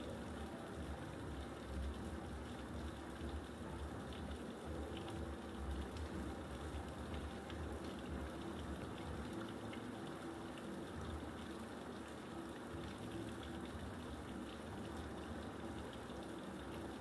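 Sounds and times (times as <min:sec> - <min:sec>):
raindrop ticks: 0:00.0 - 0:17.0
steady rain hiss: 0:00.0 - 0:17.0.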